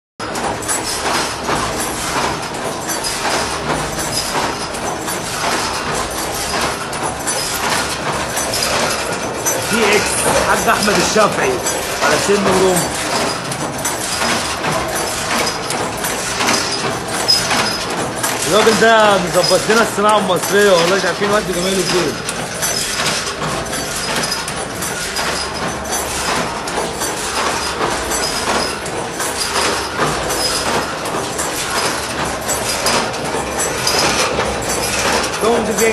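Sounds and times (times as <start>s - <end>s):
repeated mechanical stroke: 0.2s - 35.9s.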